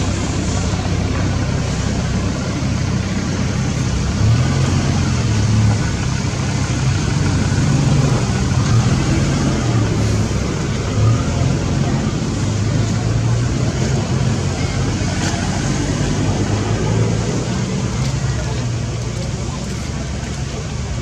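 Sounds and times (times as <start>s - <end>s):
engine low hum: 0.0s - 21.0s.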